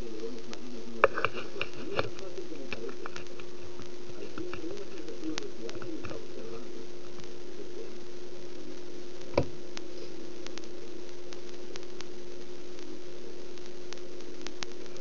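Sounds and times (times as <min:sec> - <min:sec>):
low hum: 0:00.0 - 0:15.0
steady hiss: 0:00.0 - 0:15.0.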